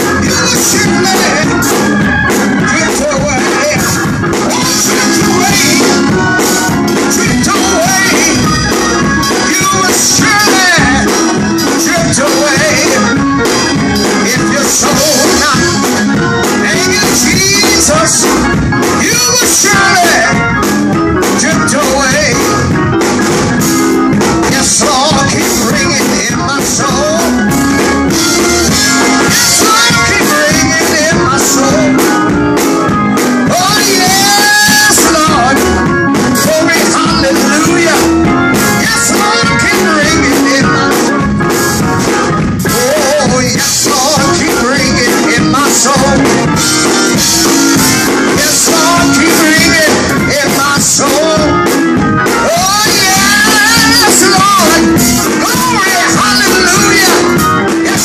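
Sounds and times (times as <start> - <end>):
man singing gospel: 0.0 - 58.0
organ chords: 0.0 - 58.0.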